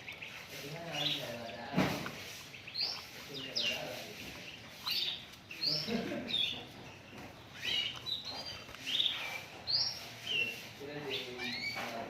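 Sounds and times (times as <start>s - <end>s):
bird chirping and twittering: 0.0s - 12.0s.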